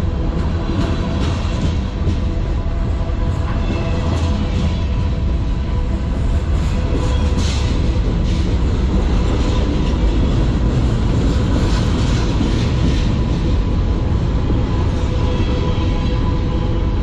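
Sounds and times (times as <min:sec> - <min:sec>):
freight train rolling past: 0:00.0 - 0:17.0
steel wheels rumbling on rails: 0:00.0 - 0:17.0.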